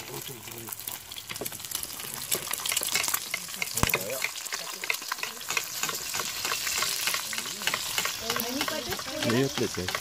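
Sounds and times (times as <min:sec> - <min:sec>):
eggs sizzling in frying pan: 0:00.0 - 0:10.0.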